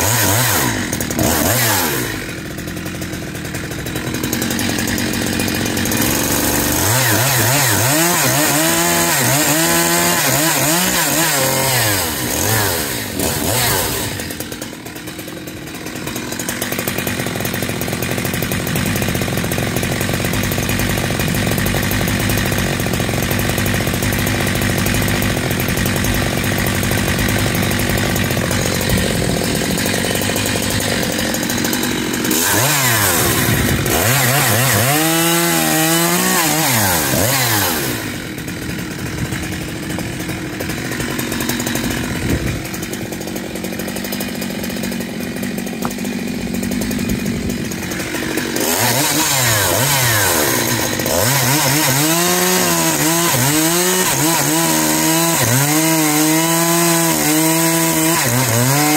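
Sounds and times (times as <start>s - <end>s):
chainsaw cutting log: 0.0s - 58.9s.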